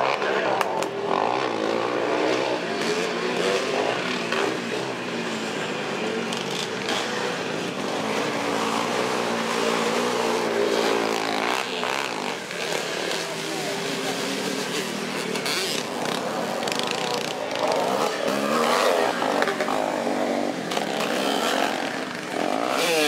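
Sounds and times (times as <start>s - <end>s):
motocross motorcycles revving: 0.0s - 23.0s.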